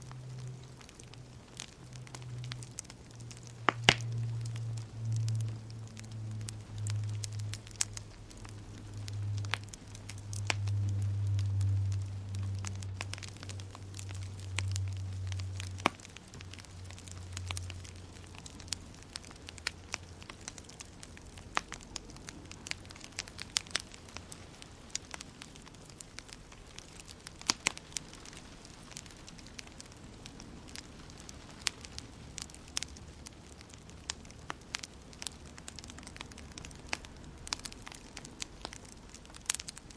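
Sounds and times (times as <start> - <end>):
low rumble: 0.0 - 39.9
wood fire crackling: 0.0 - 39.9.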